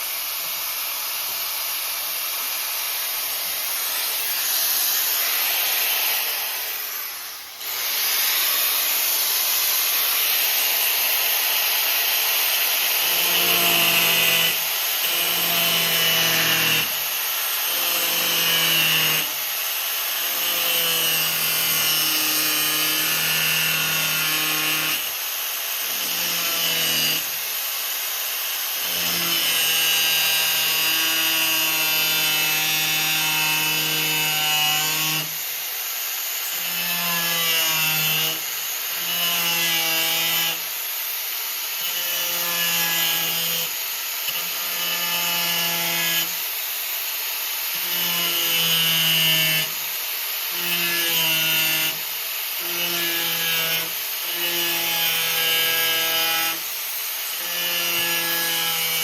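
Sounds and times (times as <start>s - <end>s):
power tool cutting sheet metal: 0.0s - 59.0s.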